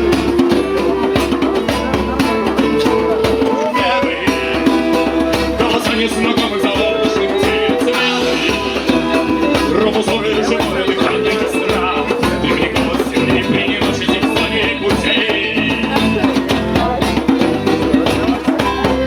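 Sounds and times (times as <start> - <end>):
live band playing: 0.0 - 19.0
person singing: 0.0 - 19.0.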